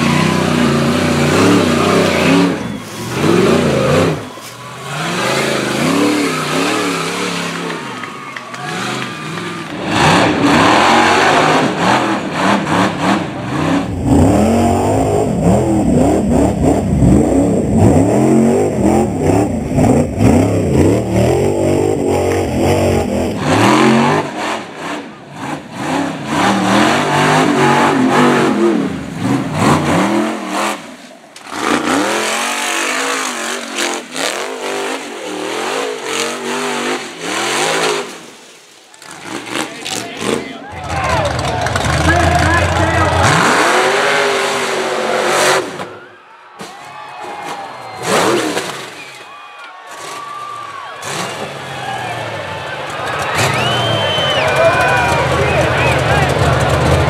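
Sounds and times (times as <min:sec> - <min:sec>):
buggy engines revving: 0:00.0 - 0:46.1, 0:47.3 - 0:49.2, 0:49.9 - 0:57.0.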